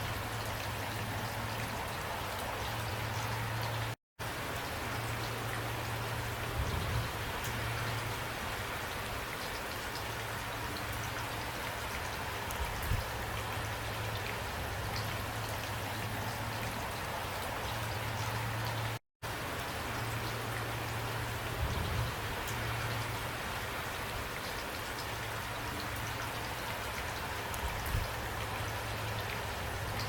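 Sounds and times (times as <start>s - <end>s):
raindrops ticking on surfaces: 0.0s - 30.0s.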